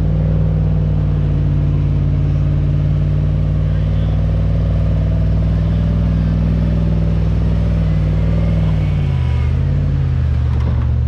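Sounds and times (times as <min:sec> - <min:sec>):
vehicle engine under load: 0:00.0 - 0:11.0.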